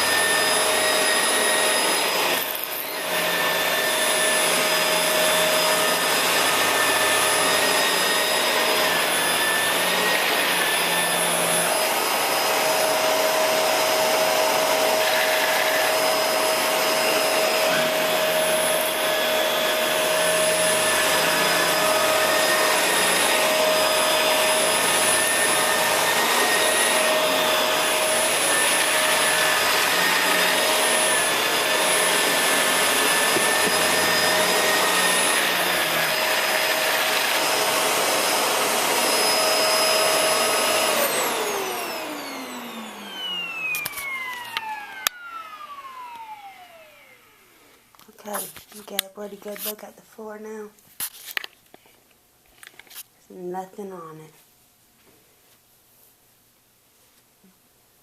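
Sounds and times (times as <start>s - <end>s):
upright vacuum cleaner running: 0.0s - 49.7s.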